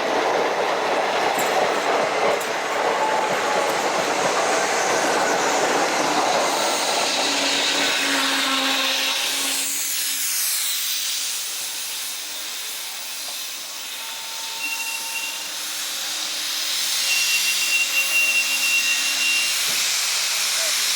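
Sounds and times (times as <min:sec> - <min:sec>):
train braking to a stop: 0:01.2 - 0:20.9.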